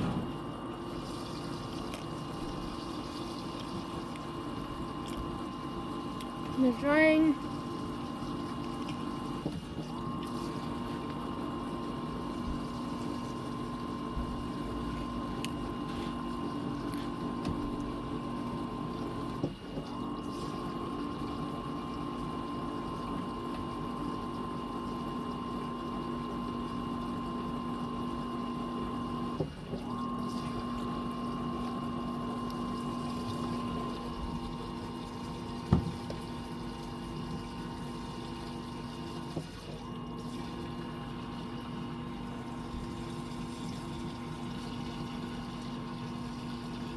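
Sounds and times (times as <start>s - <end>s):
washing machine drain pump humming: 0.0s - 46.9s.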